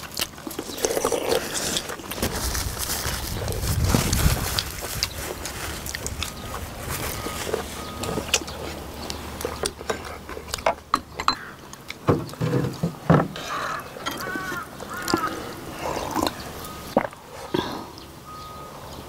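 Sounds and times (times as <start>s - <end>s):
wet chewing: 0.0s - 12.4s, 13.4s - 18.1s.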